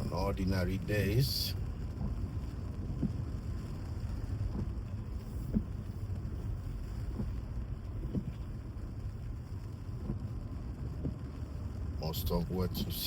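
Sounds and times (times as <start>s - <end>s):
vehicle rumbling on wet road: 0.0s - 13.0s.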